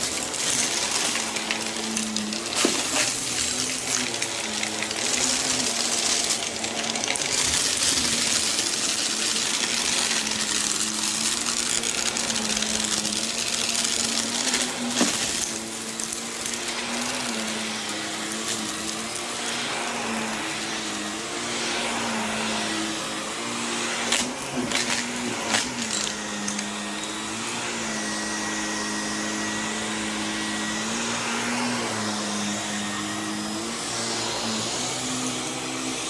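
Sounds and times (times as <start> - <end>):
vacuum cleaner motor hum: 0.0 - 36.0.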